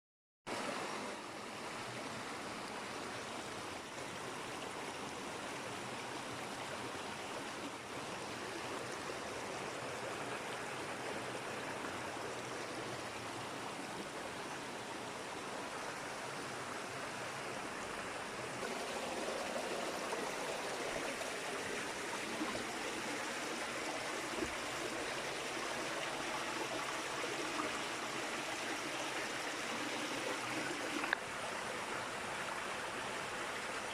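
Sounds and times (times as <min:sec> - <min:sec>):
creek water flowing: 0:00.5 - 0:33.9.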